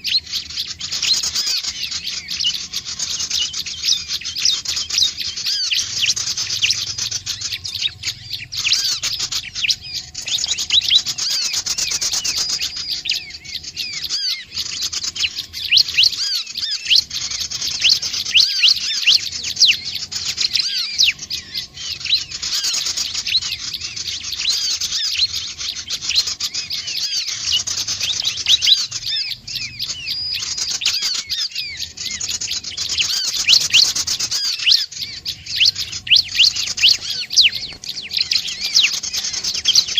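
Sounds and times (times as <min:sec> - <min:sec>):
bird rapid chirping chatter: 0:00.0 - 0:39.9.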